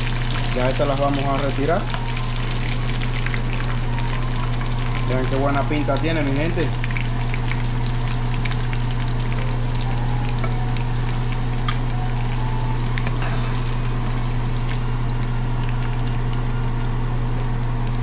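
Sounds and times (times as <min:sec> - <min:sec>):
constant low hum: 0:00.0 - 0:18.0
food sizzling in hot oil: 0:00.0 - 0:18.0.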